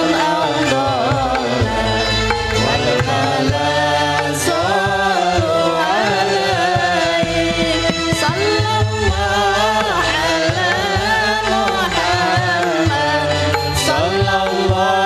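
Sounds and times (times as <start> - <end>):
hand drum beats: 0.0 - 15.0.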